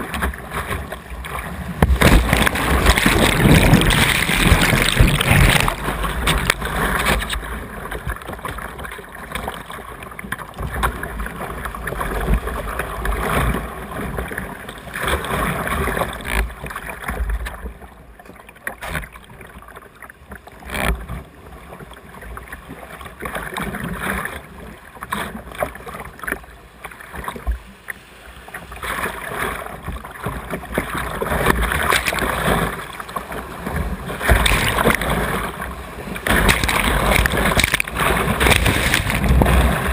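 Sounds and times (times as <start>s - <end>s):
whitewater rushing and splashing: 0.0s - 17.8s, 25.0s - 39.9s.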